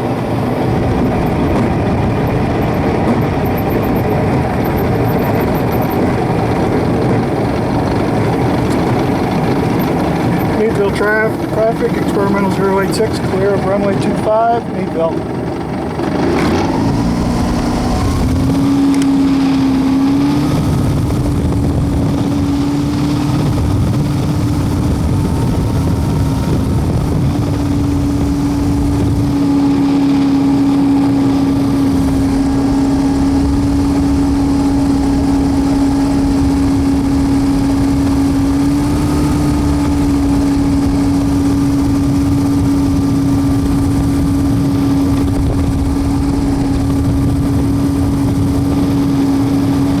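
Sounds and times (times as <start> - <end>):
propeller engine droning: 0.0 - 50.0.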